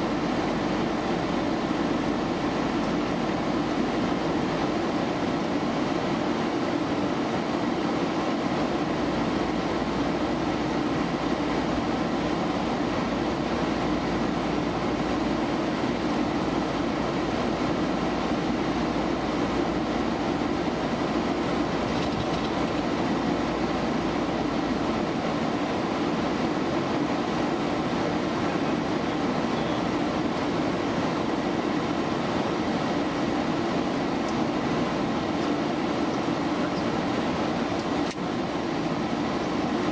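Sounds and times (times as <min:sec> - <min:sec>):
air conditioning: 0:00.0 - 0:39.9
jet engines: 0:00.0 - 0:39.9.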